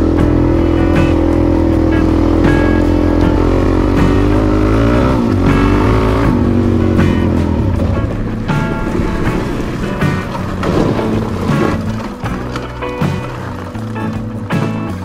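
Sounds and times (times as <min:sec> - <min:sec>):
background music: 0:00.0 - 0:15.0
dirt bike engine revving: 0:00.0 - 0:15.0.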